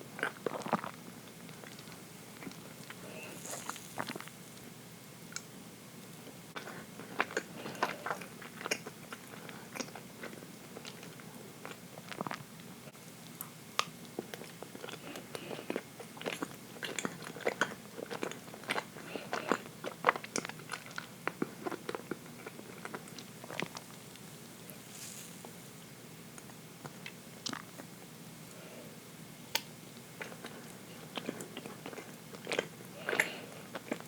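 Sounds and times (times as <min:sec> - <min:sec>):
person chewing cake: 0:00.0 - 0:04.7, 0:05.3 - 0:12.6, 0:13.2 - 0:25.6, 0:26.3 - 0:28.8, 0:29.5 - 0:34.0.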